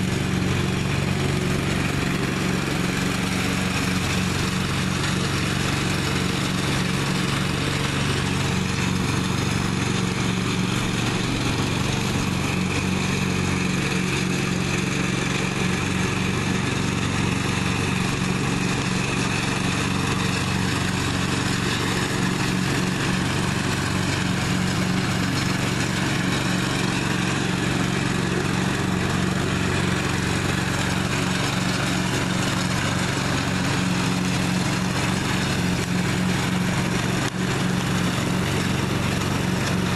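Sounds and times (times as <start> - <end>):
riding lawn mower engine: 0.0 - 39.9.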